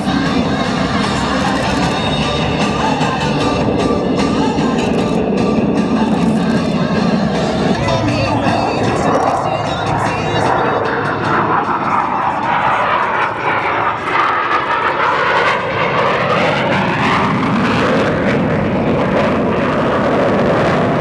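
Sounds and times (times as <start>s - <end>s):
jets flying past: 0.0s - 21.0s.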